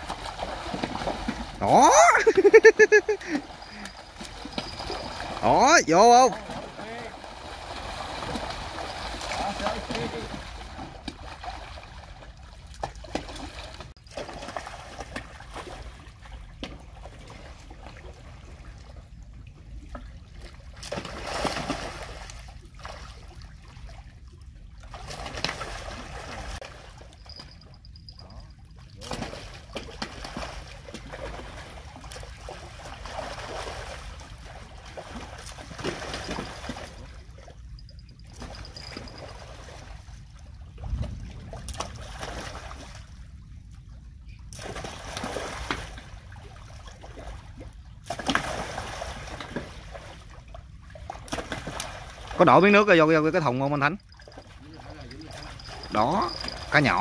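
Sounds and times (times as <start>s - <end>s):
water splashing around boat: 0.0s - 57.0s.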